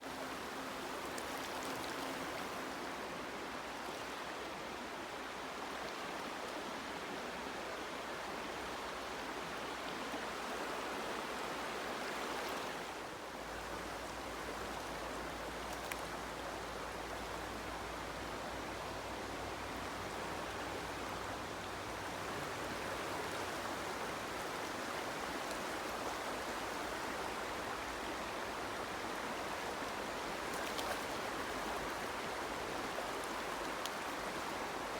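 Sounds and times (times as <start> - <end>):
stream water running: 0.0 - 34.9.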